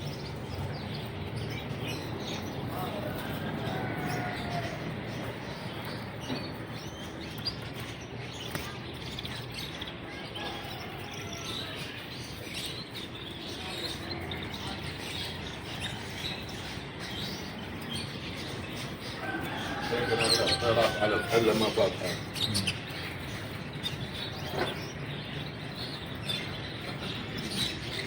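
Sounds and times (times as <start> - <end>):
market noise: 0.0 - 28.0
songbirds chirping: 0.0 - 28.0.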